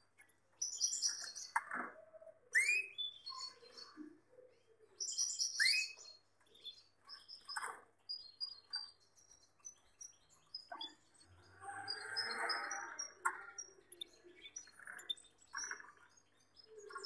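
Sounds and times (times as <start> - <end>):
canaries chirping: 0.0 - 17.0.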